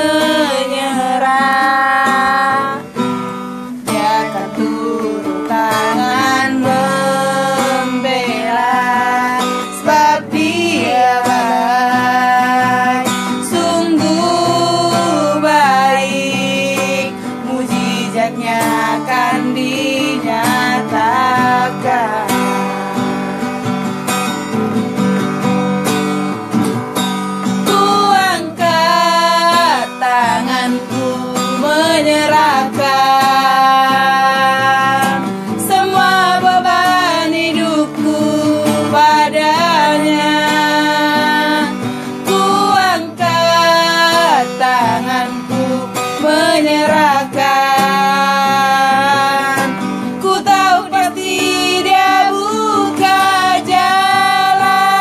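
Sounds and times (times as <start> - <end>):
women singing: 0.0 - 23.8, 27.4 - 55.0
guitar accompaniment: 0.0 - 55.0.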